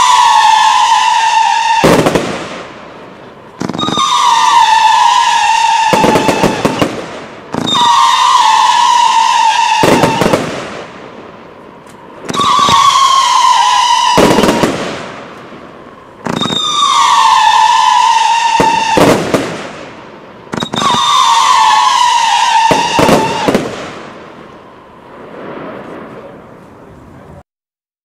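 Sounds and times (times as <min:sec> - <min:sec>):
firework bangs and crackling: 0:00.0 - 0:27.4
firework whistle: 0:00.0 - 0:27.4.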